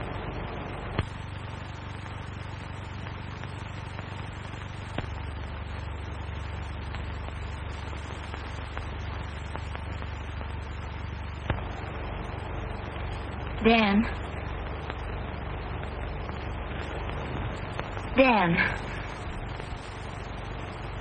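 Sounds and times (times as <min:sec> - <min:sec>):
film soundtrack hiss and hum: 0:00.0 - 0:21.0.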